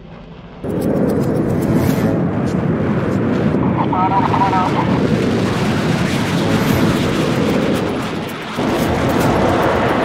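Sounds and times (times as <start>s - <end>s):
fighter jet engines roaring: 0.0s - 10.0s.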